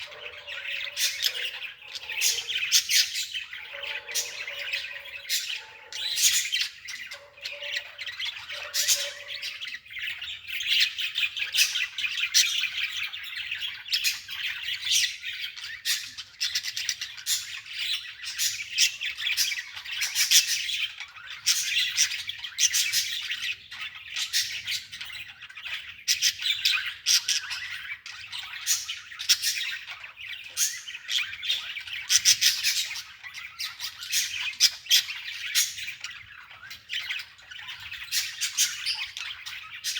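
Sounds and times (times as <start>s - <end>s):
birds chattering and squawking: 0.0s - 39.9s.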